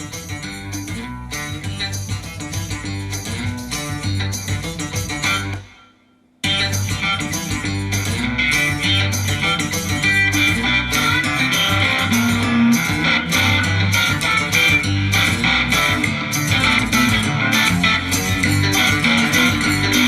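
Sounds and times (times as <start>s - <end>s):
guitar music with bass and beat: 0.0s - 20.0s.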